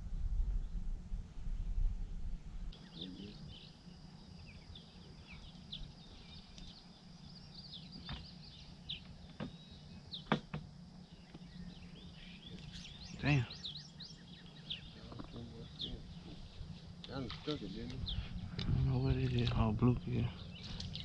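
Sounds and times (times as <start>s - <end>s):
faint high hum: 0.0s - 21.0s
birds chirping: 2.7s - 21.0s.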